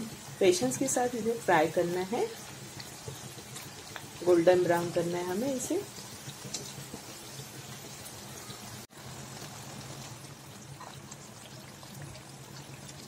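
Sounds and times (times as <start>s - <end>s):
puris deep-frying in hot oil: 0.0s - 13.0s.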